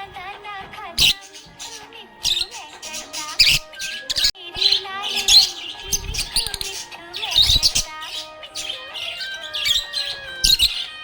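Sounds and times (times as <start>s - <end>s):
budgerigar chirping and warbling: 1.0s - 11.0s.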